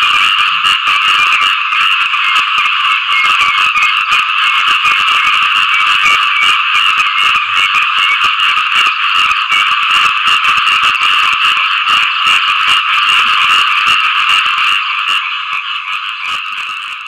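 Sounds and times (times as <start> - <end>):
chorus of frogs calling: 0.0 - 17.0.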